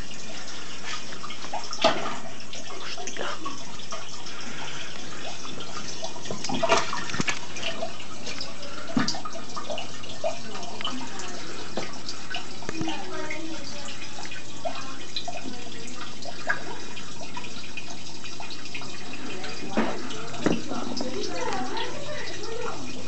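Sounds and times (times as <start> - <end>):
water running in fish tank: 0.0 - 23.0
water splashes: 0.0 - 23.0.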